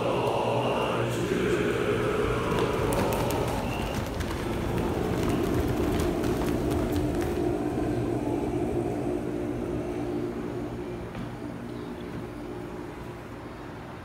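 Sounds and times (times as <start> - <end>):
long horns droning: 0.0 - 14.0.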